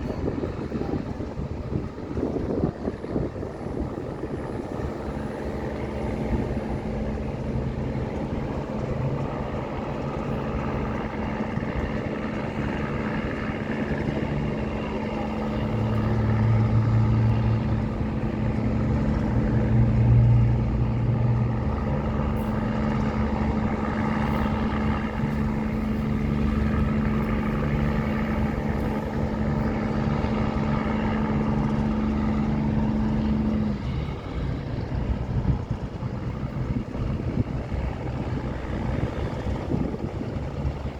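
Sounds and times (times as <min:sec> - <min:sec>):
tugboat engine droning: 0:00.0 - 0:40.9.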